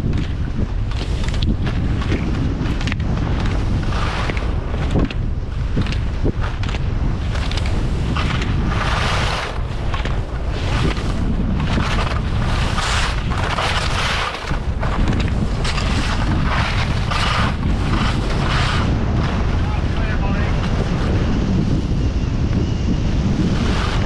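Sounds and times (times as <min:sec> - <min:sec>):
skis carving on snow: 0:00.0 - 0:21.7, 0:22.3 - 0:24.0
wind buffeting microphone: 0:00.0 - 0:24.0.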